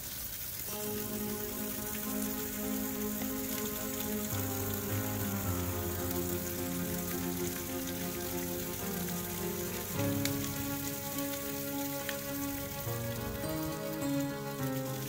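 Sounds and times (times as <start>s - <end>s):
hose water spraying on tree: 0.0s - 15.0s
slow music of held chords: 0.7s - 15.0s.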